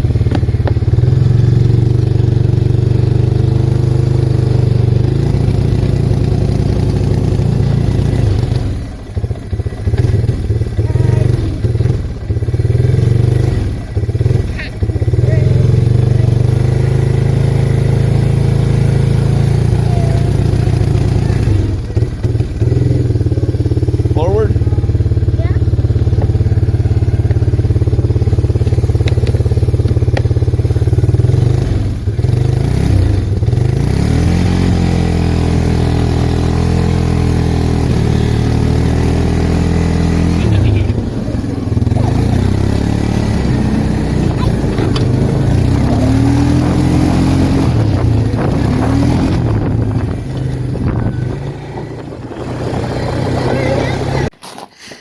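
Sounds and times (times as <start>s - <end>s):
atv engine revving: 0.0s - 54.4s.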